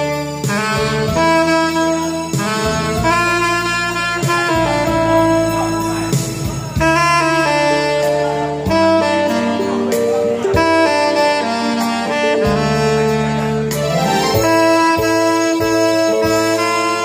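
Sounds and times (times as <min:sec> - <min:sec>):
bass and chord accompaniment: 0:00.0 - 0:17.0
tenor saxophone slow melody: 0:00.0 - 0:17.0.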